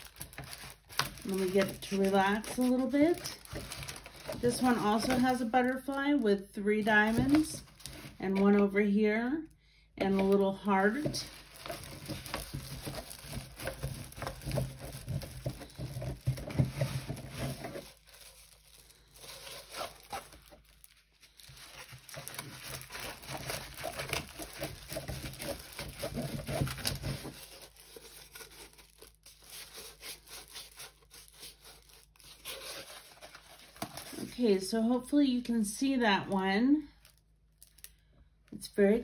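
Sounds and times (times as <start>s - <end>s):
plastic film crinkling: 0.0s - 8.7s, 10.1s - 34.6s, 36.9s - 38.1s.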